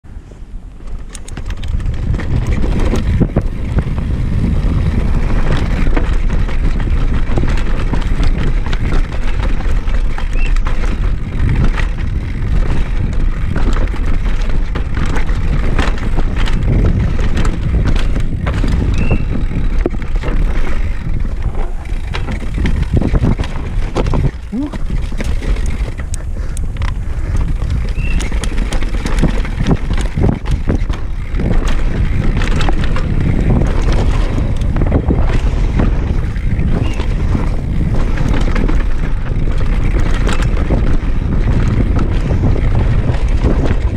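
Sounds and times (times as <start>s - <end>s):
wind buffeting microphone: 0.0s - 43.9s
bike chain and frame rattling: 0.7s - 43.9s
tyre noise on dirt: 0.7s - 43.9s.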